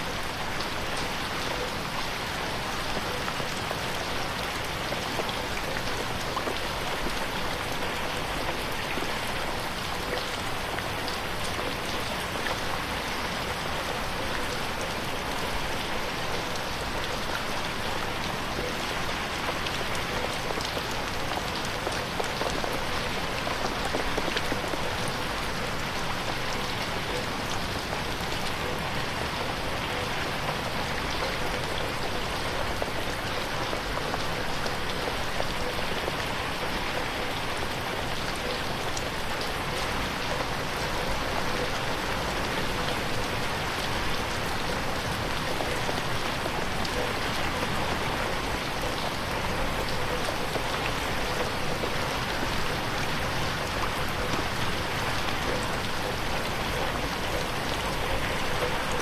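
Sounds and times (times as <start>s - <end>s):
rain pattering on window: 0.0s - 59.0s.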